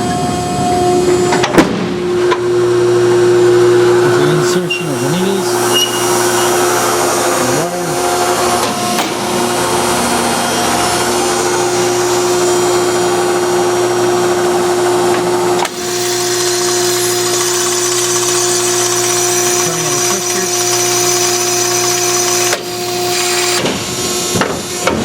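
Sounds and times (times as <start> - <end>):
hydraulic power pack humming: 0.0 - 25.0.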